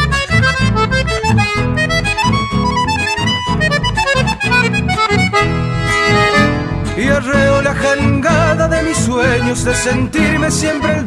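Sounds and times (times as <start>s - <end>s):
accordion playing melody: 0.0s - 11.0s
rhythmic accompaniment: 0.0s - 11.0s.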